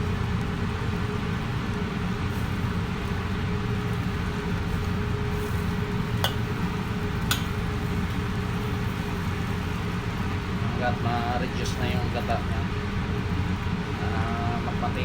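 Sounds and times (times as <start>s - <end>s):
pot boiling and bubbling: 0.0s - 15.0s.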